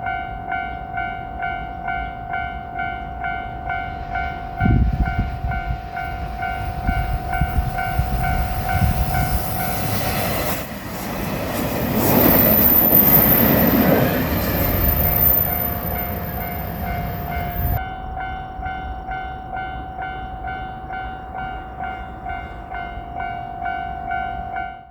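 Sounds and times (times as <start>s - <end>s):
crossing bell dinging: 0.0s - 10.3s, 11.3s - 24.9s
train passing with rumble: 0.0s - 24.9s.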